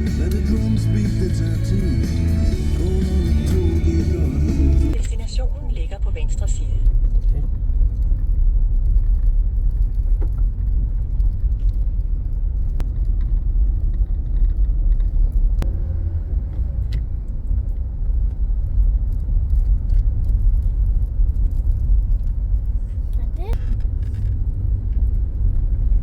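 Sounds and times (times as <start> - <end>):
car interior road and engine rumble: 0.0 - 26.0.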